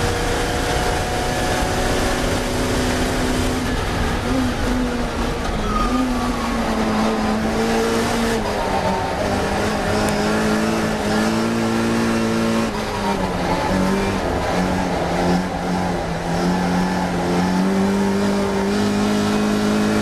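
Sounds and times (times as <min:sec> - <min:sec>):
race car engine at high revs: 0:00.0 - 0:20.0
road and wind noise: 0:00.0 - 0:20.0.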